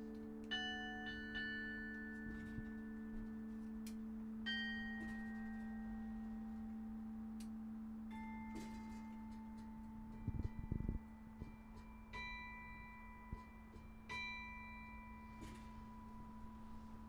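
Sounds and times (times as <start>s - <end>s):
carillon bells ringing: 0.0s - 17.0s.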